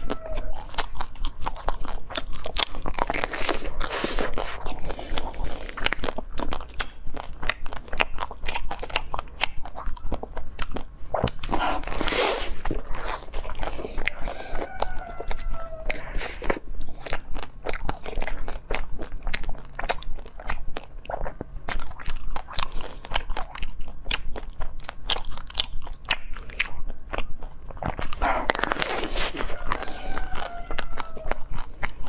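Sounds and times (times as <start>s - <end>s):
ice crunching between teeth: 0.0s - 32.0s.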